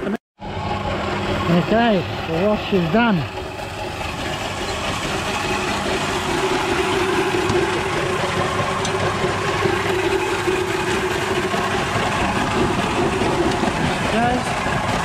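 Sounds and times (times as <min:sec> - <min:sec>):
machinery droning: 0:00.0 - 0:15.0.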